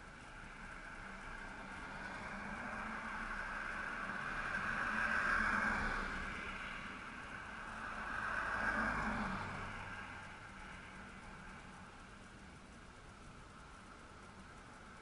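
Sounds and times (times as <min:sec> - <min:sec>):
cars passing on road: 0:00.0 - 0:15.0.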